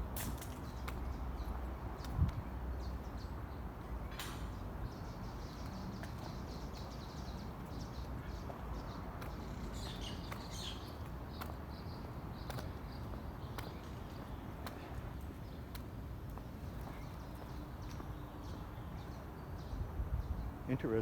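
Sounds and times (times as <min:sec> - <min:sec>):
small birds chirping: 0:00.2 - 0:21.0.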